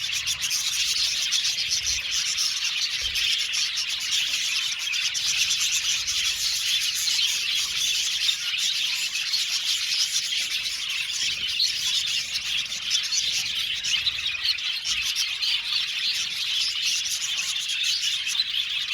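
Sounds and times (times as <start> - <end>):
budgerigars chirping and chattering: 0.0 - 18.9.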